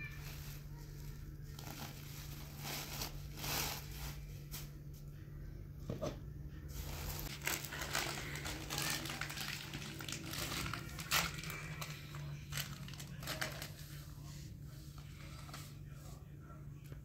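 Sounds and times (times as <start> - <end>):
crinkling and rustling handling noise: 0.0 - 5.1, 5.9 - 17.0
steady low hum: 0.0 - 17.0.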